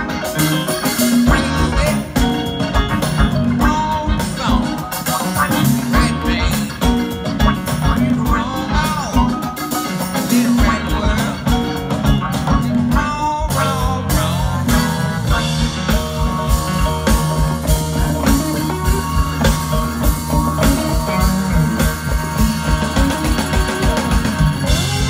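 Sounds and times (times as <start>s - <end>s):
live blues-rock band: 0.0s - 25.0s
steady drum beat: 0.0s - 25.0s.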